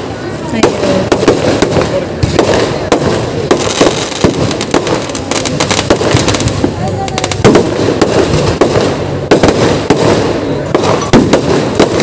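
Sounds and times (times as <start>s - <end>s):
firecracker bangs and crackling: 0.0s - 12.0s
firework booms: 0.0s - 12.0s.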